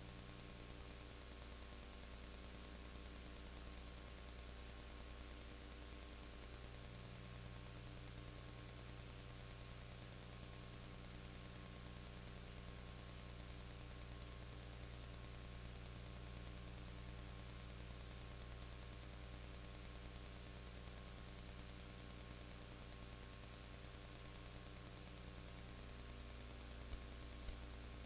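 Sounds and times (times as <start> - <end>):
faint steady hiss: 0.0 - 28.0
low electrical hum: 0.0 - 28.0.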